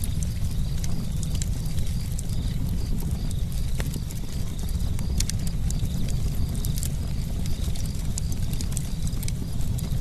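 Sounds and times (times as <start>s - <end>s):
burning wood crackling and popping: 0.0s - 10.0s
campfire roaring: 0.0s - 10.0s.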